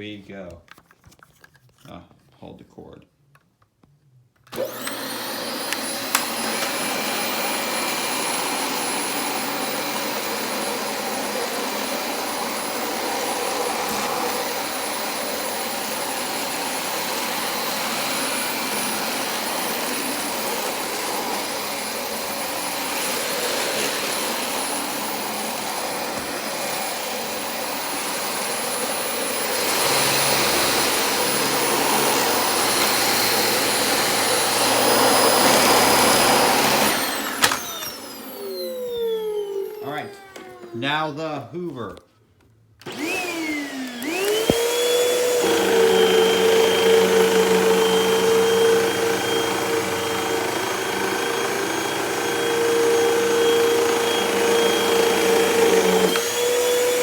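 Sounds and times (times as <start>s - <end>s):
vacuum cleaner running: 4.5s - 41.1s, 42.8s - 57.0s.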